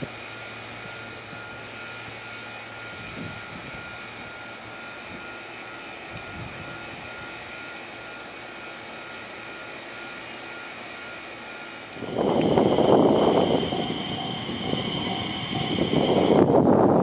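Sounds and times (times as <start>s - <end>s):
faint high whine: 0.0s - 17.0s
train equipment drone: 0.0s - 17.0s.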